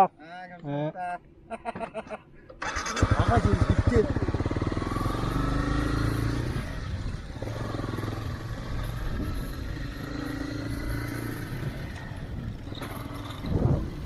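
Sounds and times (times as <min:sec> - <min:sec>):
motorcycle engine running: 0:02.6 - 0:14.0.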